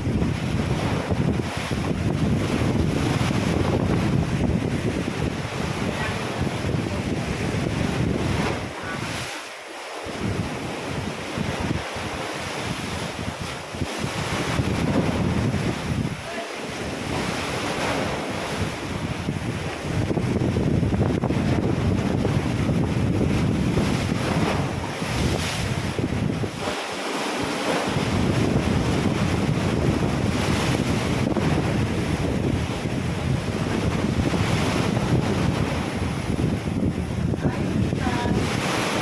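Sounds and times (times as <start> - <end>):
wind buffeting microphone: 0.0 - 9.4, 10.0 - 39.0
ocean surf washing in: 0.0 - 39.0.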